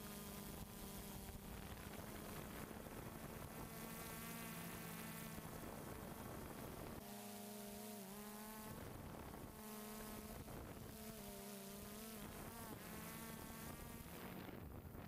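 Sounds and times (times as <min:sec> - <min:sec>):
drone propellers buzzing: 0:00.0 - 0:14.7.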